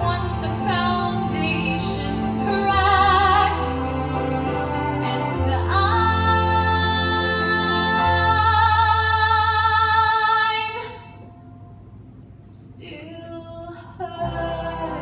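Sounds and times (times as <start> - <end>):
woman singing a ballad: 0.0 - 11.2, 12.4 - 15.0
low musical accompaniment: 0.0 - 15.0.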